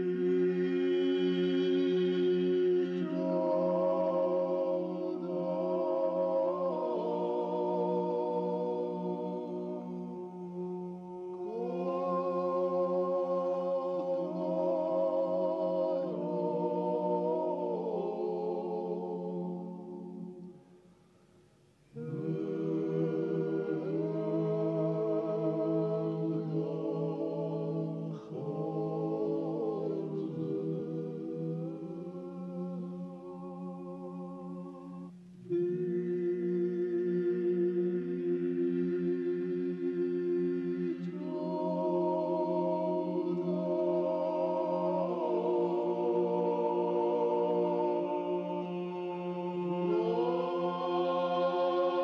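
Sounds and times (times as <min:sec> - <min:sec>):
choir singing a cappella: 0:00.0 - 0:52.0.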